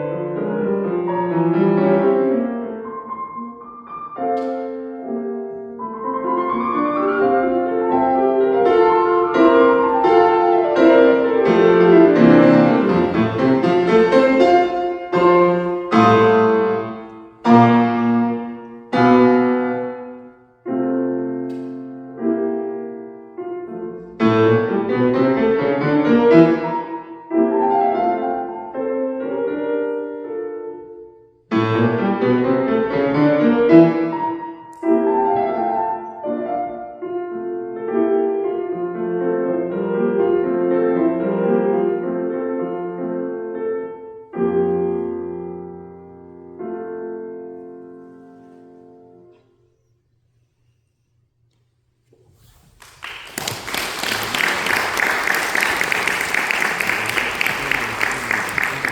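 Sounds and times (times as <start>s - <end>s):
solo classical piano: 0.0s - 49.5s.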